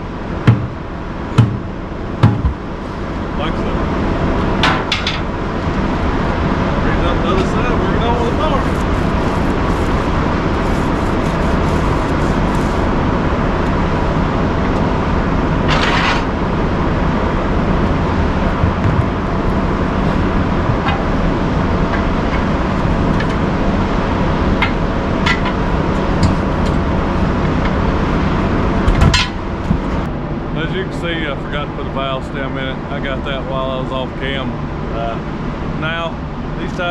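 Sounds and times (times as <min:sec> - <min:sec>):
engine and traffic drone: 0:00.0 - 0:36.9.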